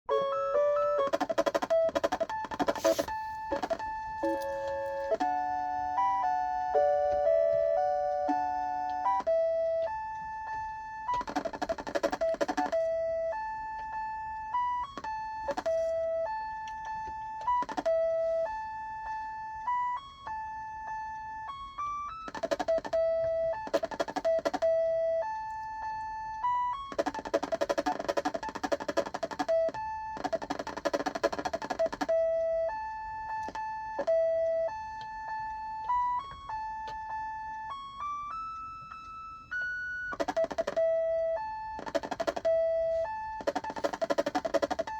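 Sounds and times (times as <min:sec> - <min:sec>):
beeping music-box-like melody: 0:00.1 - 0:44.9.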